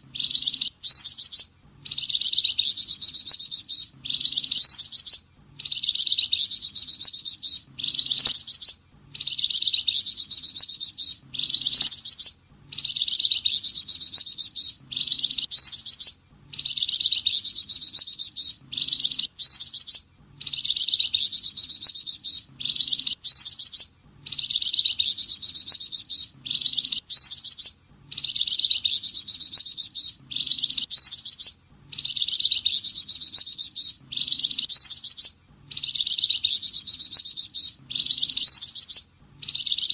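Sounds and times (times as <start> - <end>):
songbird rattling trills: 0.2 - 39.9.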